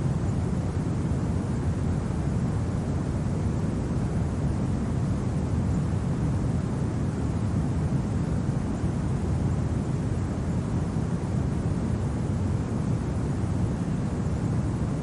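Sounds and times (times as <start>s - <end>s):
low rumbling wind: 0.0s - 15.0s.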